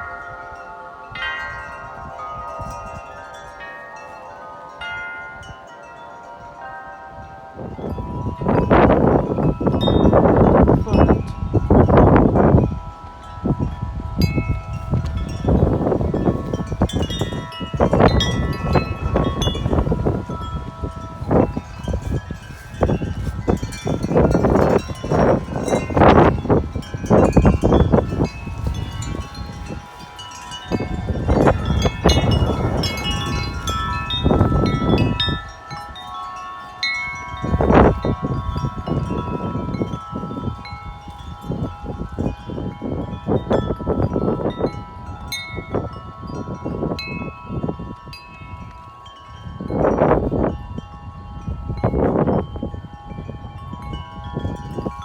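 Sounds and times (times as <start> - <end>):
wind buffeting microphone: 0.0 - 55.0
wind chimes ringing: 0.0 - 55.0.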